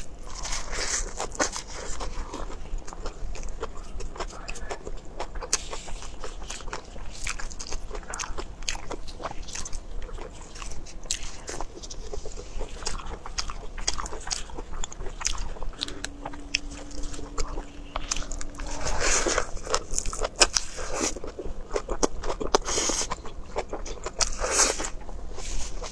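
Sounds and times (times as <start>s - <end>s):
crunchy lettuce bites: 0.0s - 25.9s
wet chewing: 0.0s - 25.9s.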